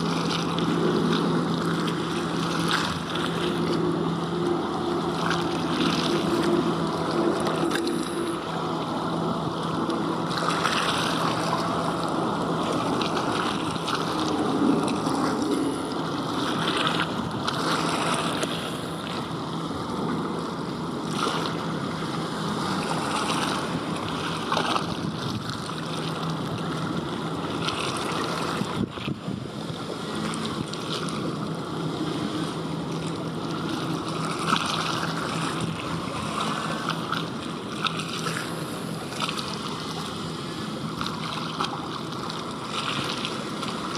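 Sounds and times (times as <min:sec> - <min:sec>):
water noise: 0:00.0 - 0:43.9
wind: 0:00.0 - 0:43.9.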